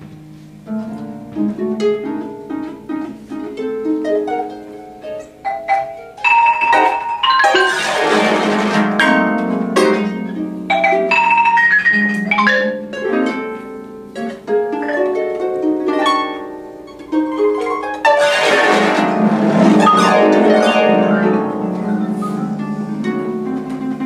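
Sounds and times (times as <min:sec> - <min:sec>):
harps plucked: 0:00.0 - 0:24.0.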